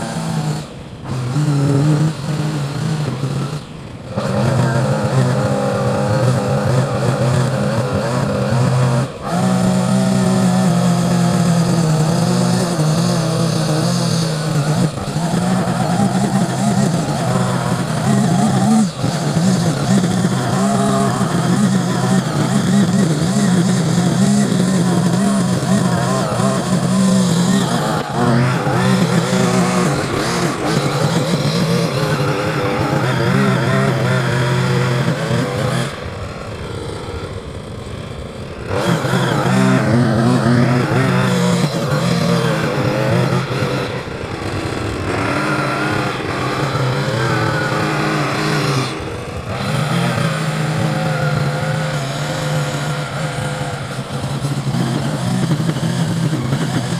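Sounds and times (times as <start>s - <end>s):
small petrol engine revving: 0.0s - 56.9s.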